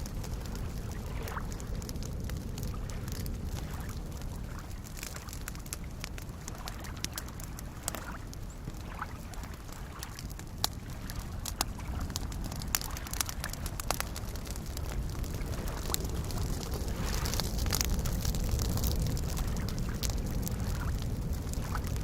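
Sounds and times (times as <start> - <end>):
campfire crackling and popping: 0.0 - 22.0
lake waves lapping: 0.1 - 21.8.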